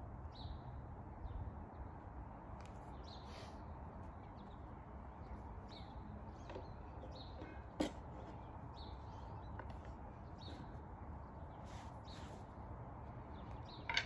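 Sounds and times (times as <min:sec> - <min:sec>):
birds chirping: 0:00.3 - 0:14.0.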